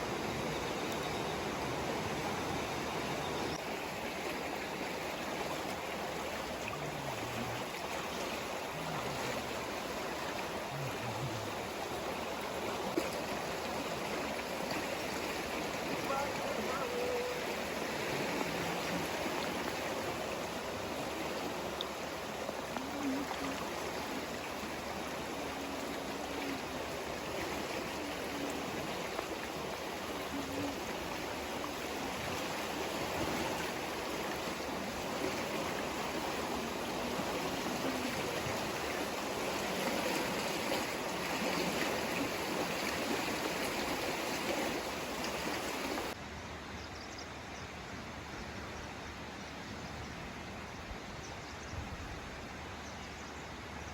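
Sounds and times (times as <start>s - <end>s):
river water rushing over rocks: 0.0s - 46.3s.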